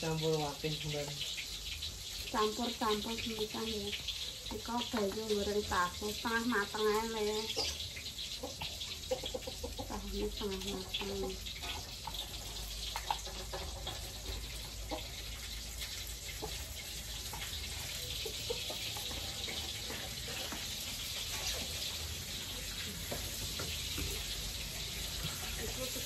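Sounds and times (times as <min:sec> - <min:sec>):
tofu frying in hot oil: 0:00.0 - 0:26.0.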